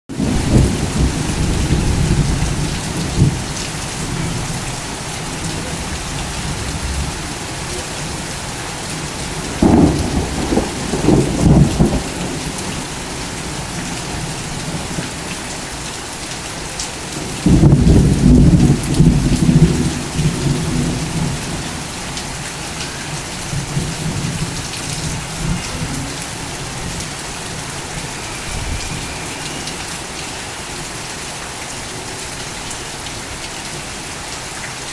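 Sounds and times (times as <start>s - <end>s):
torrential rain pouring: 0.1s - 34.9s.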